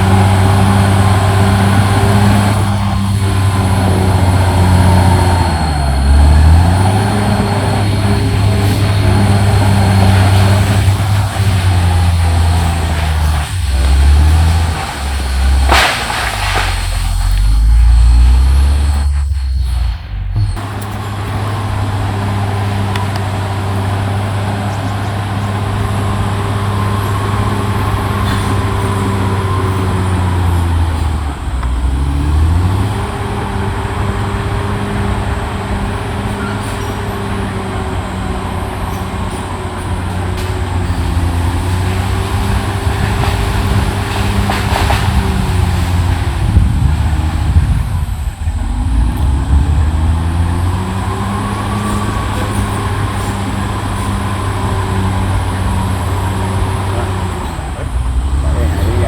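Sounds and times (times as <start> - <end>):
bulldozer diesel engine running hard: 0.0 - 59.0.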